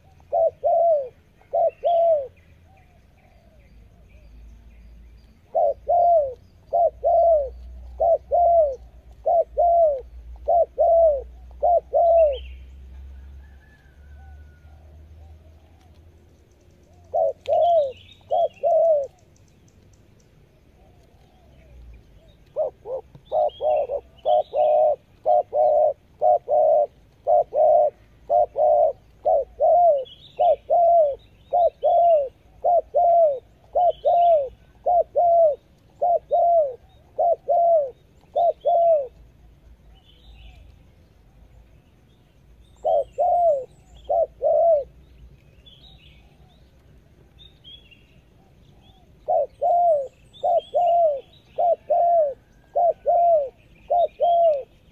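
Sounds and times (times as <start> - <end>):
dove cooing: 0.0 - 19.5, 20.4 - 41.6, 42.7 - 45.2, 48.2 - 54.9
small birds chirping: 0.0 - 54.9.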